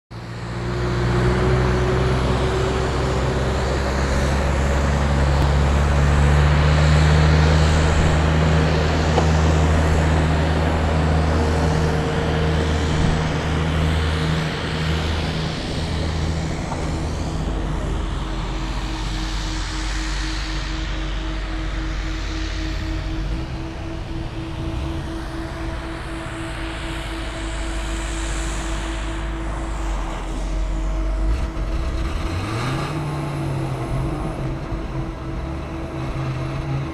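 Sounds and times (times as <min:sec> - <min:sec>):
helicopter turbine engines droning: 0:00.1 - 0:36.9.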